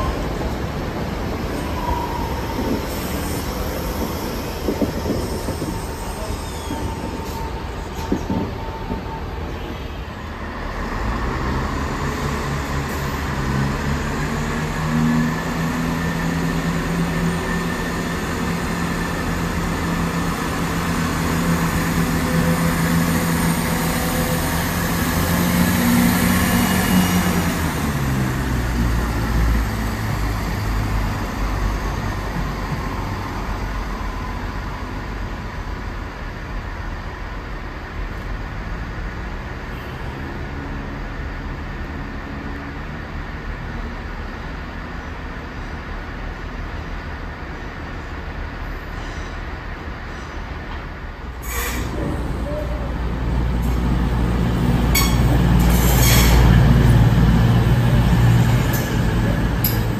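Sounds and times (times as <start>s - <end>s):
approaching train rumble: 0.0s - 59.9s
train rumbling: 0.0s - 59.9s.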